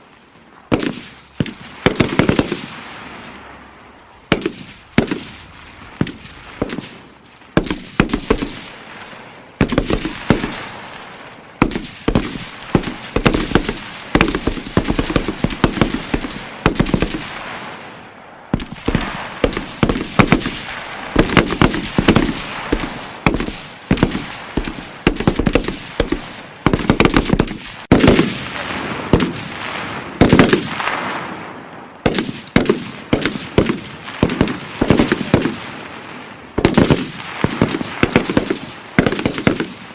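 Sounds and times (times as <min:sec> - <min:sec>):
rifle gunshots with echo: 0:00.7 - 0:03.5, 0:04.3 - 0:39.9.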